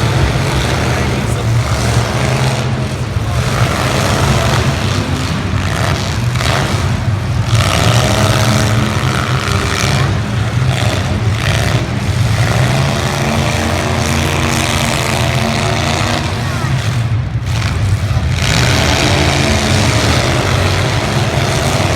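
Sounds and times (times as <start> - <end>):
car engines revving: 0.0 - 21.9.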